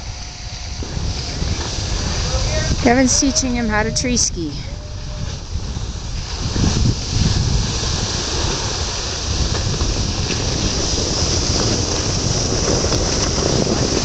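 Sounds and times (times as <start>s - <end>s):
skis sliding over snow: 0.0s - 4.5s, 5.2s - 14.0s
wind rumbling on microphone: 0.0s - 14.0s.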